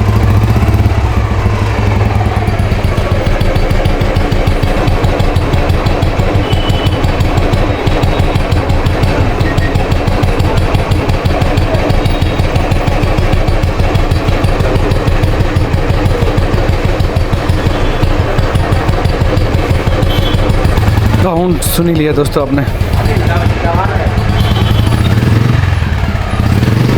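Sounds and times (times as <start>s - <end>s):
single-cylinder engine running: 0.0s - 26.9s.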